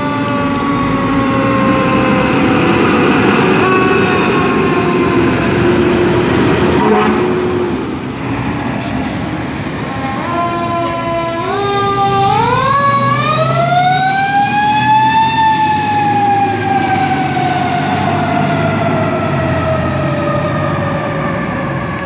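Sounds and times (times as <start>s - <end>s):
fire truck siren wailing: 0.0s - 22.0s
truck engine running low: 0.0s - 22.0s.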